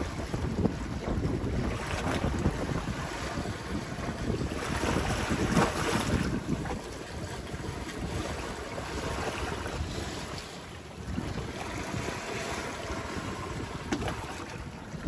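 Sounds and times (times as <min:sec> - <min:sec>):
water rushing along a hull: 0:00.0 - 0:15.0
wind buffeting microphone: 0:00.0 - 0:15.0.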